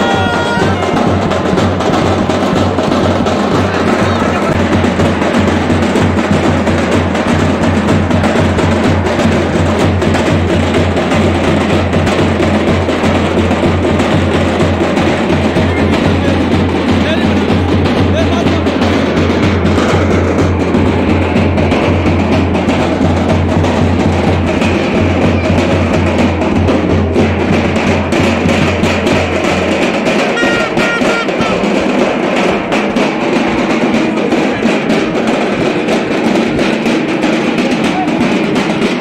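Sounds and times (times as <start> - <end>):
music with heavy drumming: 0.0 - 39.0.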